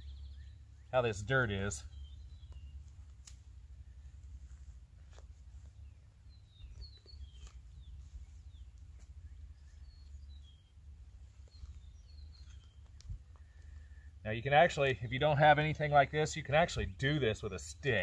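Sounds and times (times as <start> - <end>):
low steady rumble: 0.0 - 18.0
small birds chirping: 0.0 - 18.0.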